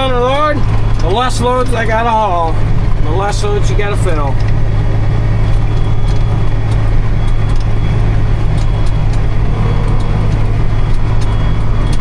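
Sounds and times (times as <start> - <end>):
farm vehicle engine humming: 0.0 - 12.0.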